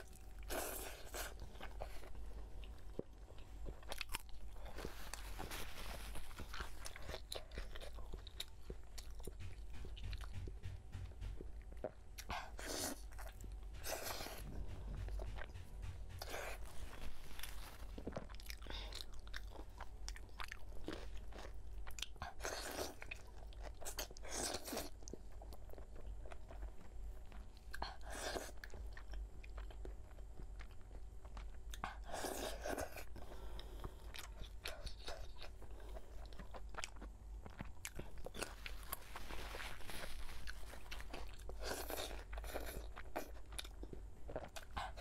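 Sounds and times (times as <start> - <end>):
wet chewing and biting: 0.0 - 45.0.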